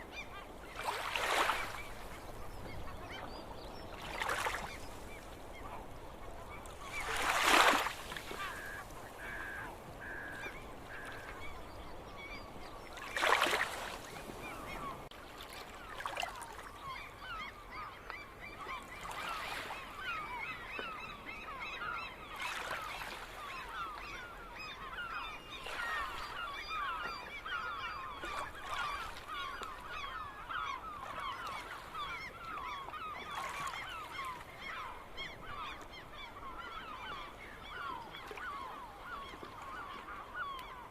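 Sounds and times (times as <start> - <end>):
gulls calling: 0.0 - 40.9
flock of gulls chattering: 0.1 - 15.1, 15.9 - 40.9.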